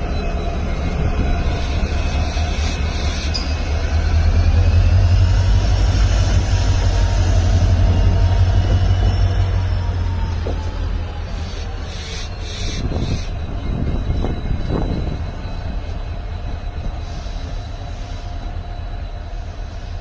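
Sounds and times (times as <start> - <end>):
locomotive engine deep rumble: 0.0 - 20.0.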